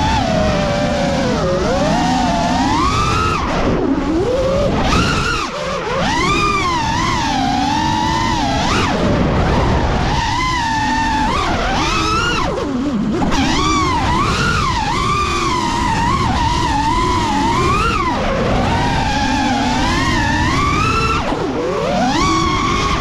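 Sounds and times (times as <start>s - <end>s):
quadcopter motors whining: 0.0s - 23.0s
wind rumble: 0.0s - 23.0s.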